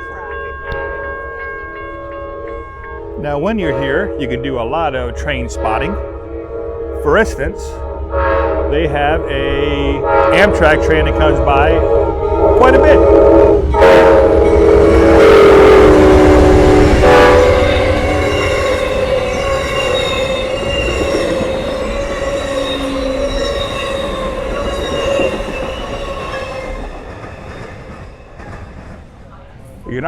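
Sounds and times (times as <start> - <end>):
passenger train passing: 0.0 - 30.0
train horn blowing: 0.7 - 27.1.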